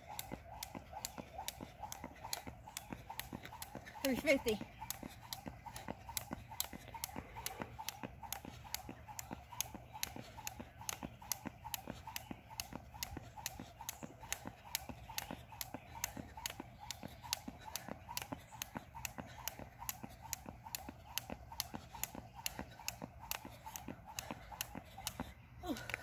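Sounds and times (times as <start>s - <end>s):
jump rope slapping asphalt: 0.0s - 26.0s.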